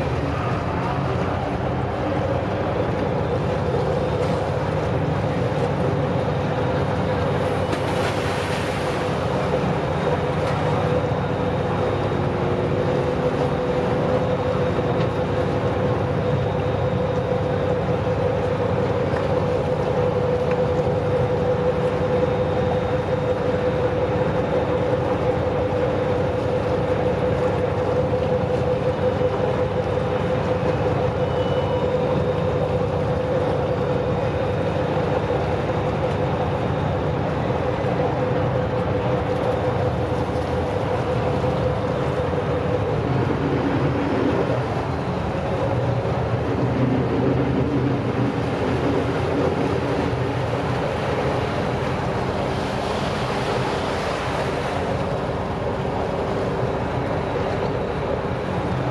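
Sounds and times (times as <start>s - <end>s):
boat diesel engine humming: 0.0s - 58.9s
water washing along hull: 0.0s - 58.9s.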